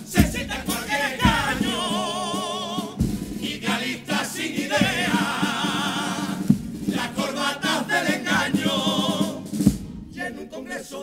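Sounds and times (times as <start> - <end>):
male chorus singing: 0.0 - 11.0.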